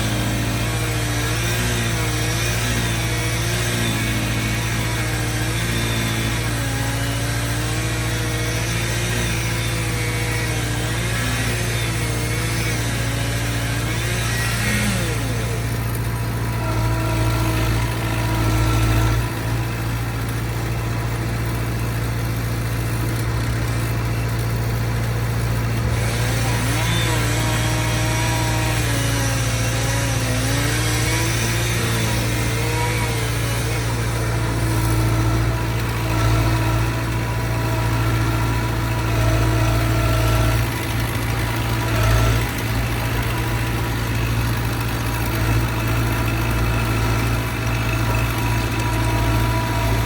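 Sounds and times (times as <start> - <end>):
skid steer engine humming: 0.0 - 50.0.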